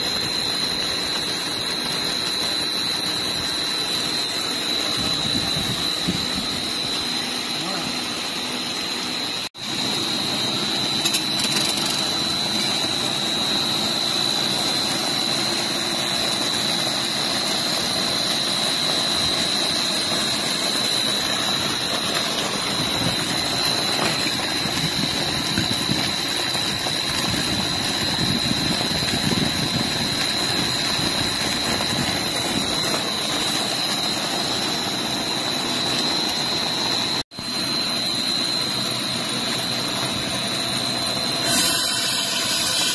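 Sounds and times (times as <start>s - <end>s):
extruder machine whining: 0.0s - 42.9s.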